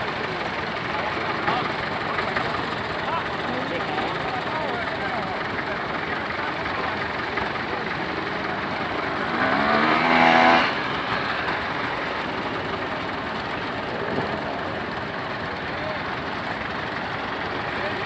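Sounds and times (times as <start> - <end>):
old tractor engines running: 0.0 - 18.0
tractor engine revving: 0.0 - 18.0.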